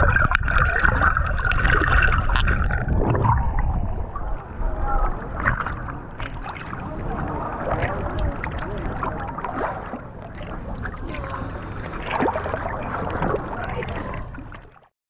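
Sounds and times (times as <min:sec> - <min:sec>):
water sloshing and gurgling: 0:00.0 - 0:14.9
waves lapping against boat hull: 0:00.0 - 0:14.9.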